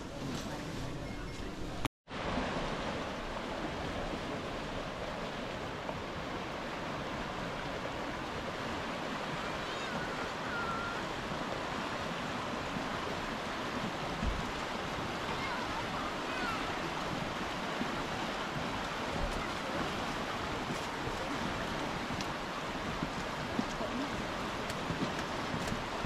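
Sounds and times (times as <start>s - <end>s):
river rushing over gravel: 2.1s - 26.0s.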